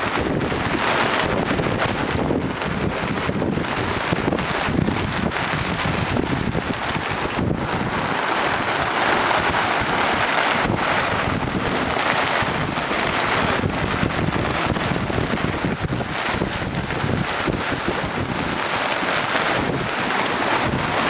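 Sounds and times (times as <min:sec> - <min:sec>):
storm wind buffeting microphone: 0:00.0 - 0:21.0.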